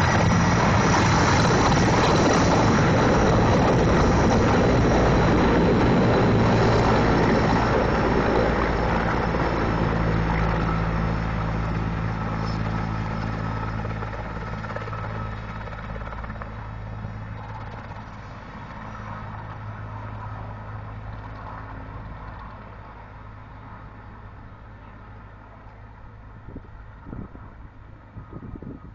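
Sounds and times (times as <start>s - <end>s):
helicopter rotor and engine drone: 0.0s - 28.9s.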